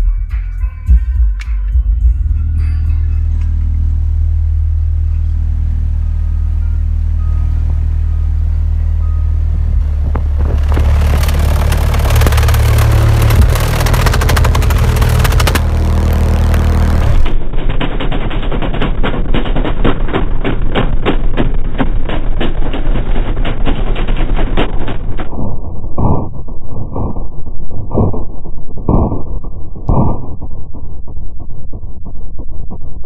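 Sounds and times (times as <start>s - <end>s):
deep loud bass notes: 0.0s - 23.5s, 24.1s - 33.0s.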